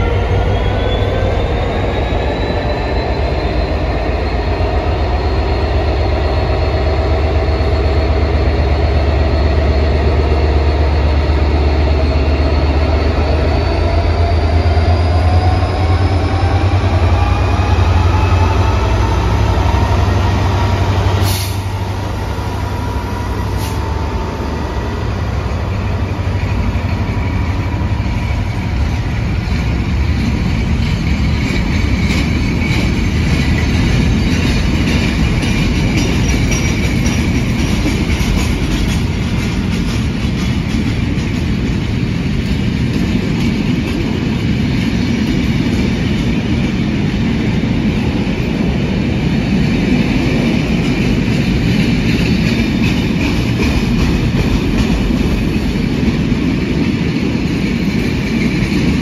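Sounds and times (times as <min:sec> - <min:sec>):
diesel locomotive engine humming: 0:00.0 - 0:59.0.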